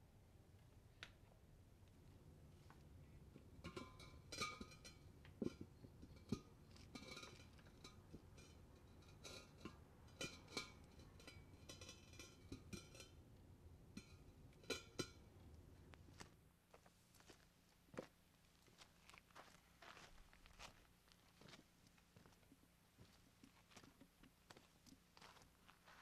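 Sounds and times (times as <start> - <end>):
low steady hiss: 0.0 - 26.0.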